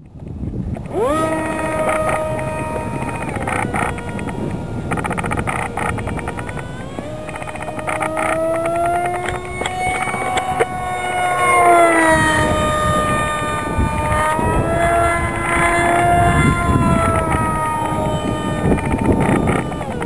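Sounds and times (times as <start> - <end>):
model plane motor whining overhead: 0.0 - 20.0.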